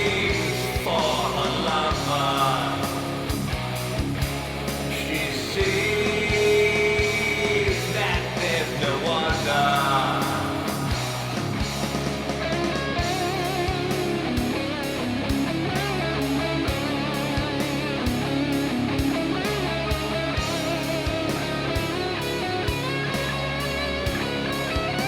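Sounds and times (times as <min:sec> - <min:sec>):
bass guitar: 0:00.0 - 0:25.0
distorted electric guitar lead: 0:00.0 - 0:25.0
steady drum beat: 0:00.0 - 0:25.0.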